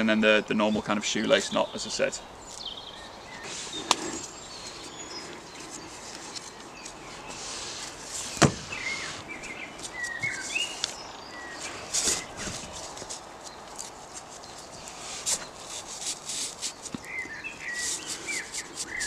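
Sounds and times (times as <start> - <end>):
birds chirping: 0.0 - 19.0
hammock webbing rustling: 2.4 - 19.0.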